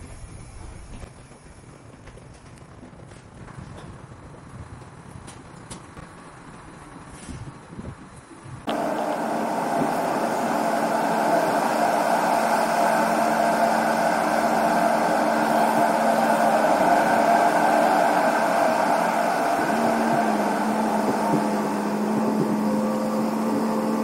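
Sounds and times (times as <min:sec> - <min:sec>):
machinery and ventilation drone: 0:00.0 - 0:24.0.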